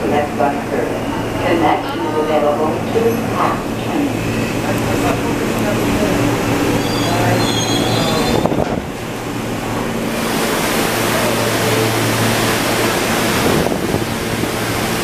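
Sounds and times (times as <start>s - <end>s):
subway train wheels on rail: 0.0s - 15.0s.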